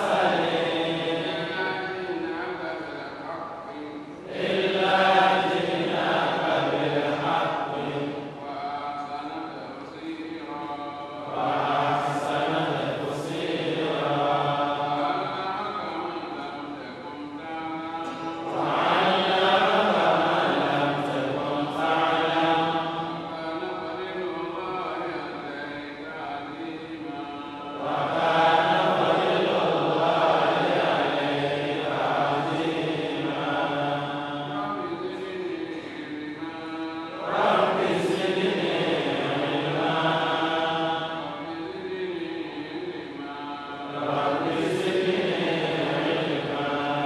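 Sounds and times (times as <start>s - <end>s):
man chanting melodically: 0.0s - 47.0s.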